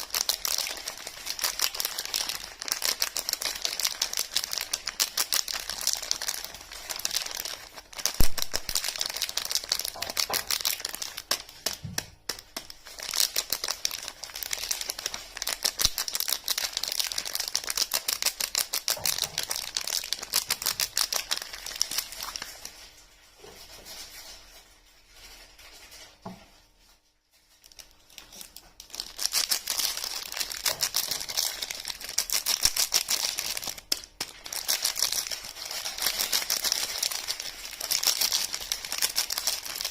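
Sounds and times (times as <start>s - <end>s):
wrapper crinkling and tearing: 0.0s - 39.9s.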